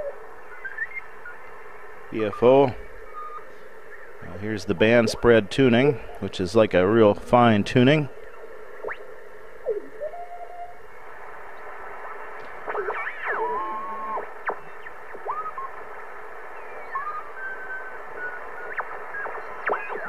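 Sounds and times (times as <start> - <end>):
whistling radio beat notes: 0.0 - 5.9, 8.2 - 20.0
radio band hiss: 0.0 - 20.0.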